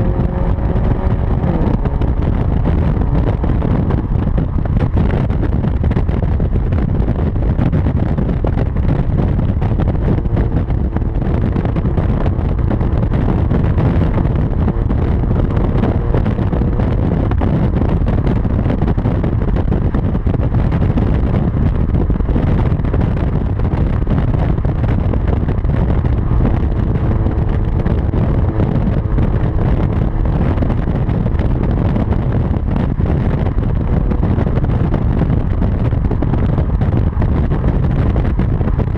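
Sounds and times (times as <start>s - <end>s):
car exhaust drone: 0.0s - 38.9s.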